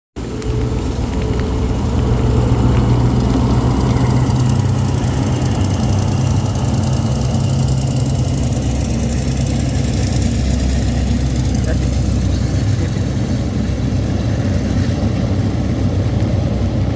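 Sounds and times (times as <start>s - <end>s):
diesel train engine hum: 0.2s - 16.9s.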